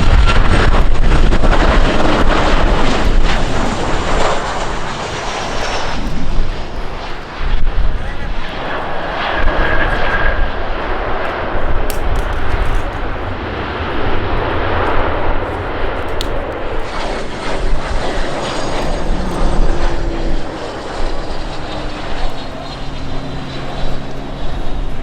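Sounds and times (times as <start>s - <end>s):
airplane passing close by: 0.0s - 25.0s.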